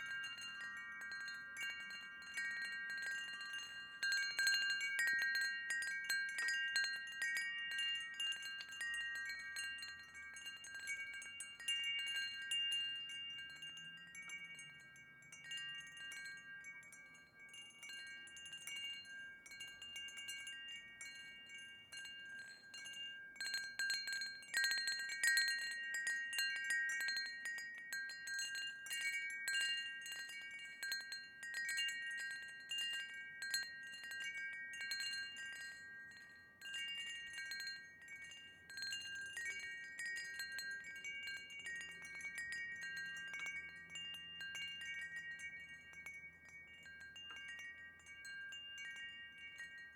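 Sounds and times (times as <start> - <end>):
wind chimes ringing: 0.0 - 49.9.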